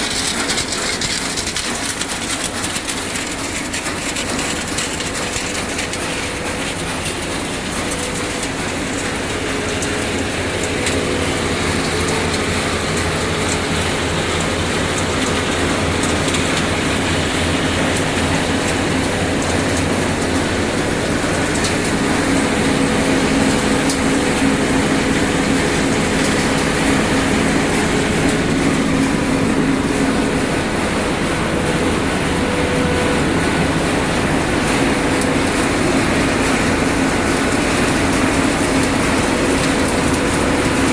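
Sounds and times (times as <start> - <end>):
machinery rattling and clattering: 0.0 - 40.9
steady mechanical hum: 0.0 - 40.9.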